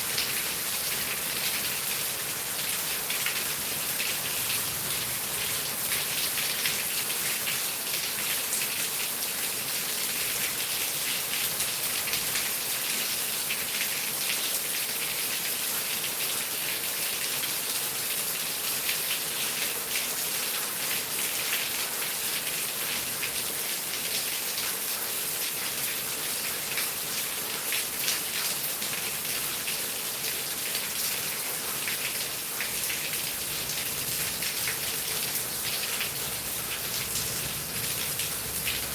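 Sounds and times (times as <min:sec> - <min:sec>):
heavy rain falling: 0:00.0 - 0:13.9, 0:19.6 - 0:38.9.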